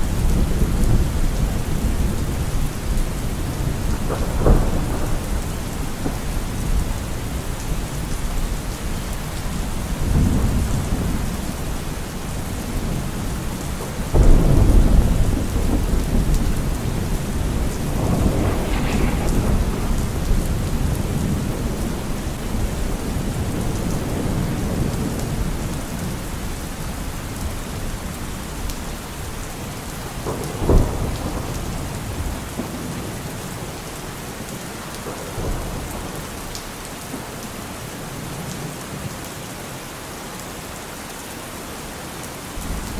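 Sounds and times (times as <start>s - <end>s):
rolling thunder: 0.0s - 38.5s
steady rain: 0.0s - 42.9s.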